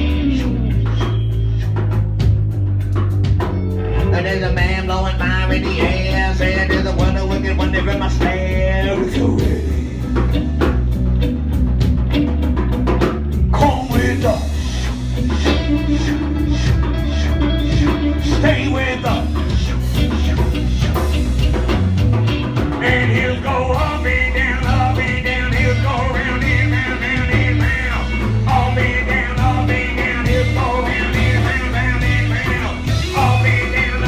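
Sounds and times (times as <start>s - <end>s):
bending lead melody: 0.0s - 34.0s
pulsing bass line: 0.0s - 34.0s
rock band playing: 0.0s - 34.0s.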